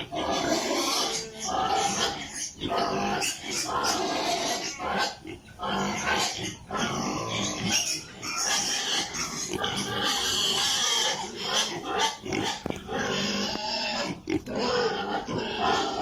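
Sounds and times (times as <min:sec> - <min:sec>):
piglets squealing and grunting: 0:00.0 - 0:16.0.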